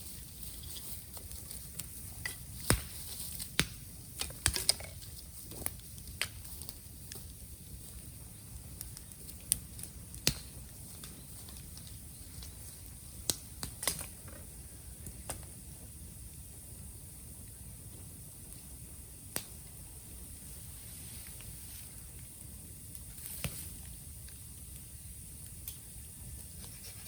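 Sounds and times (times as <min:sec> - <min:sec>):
bamboo bonfire crackling and popping: 0:00.0 - 0:27.0.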